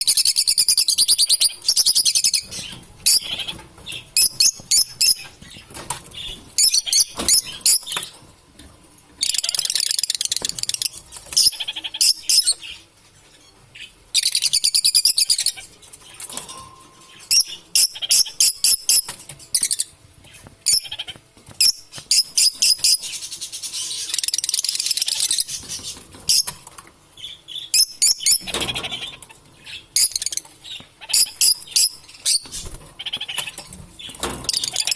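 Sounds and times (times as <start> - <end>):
lovebirds chattering and chirping: 0.0 - 8.2, 9.1 - 34.9.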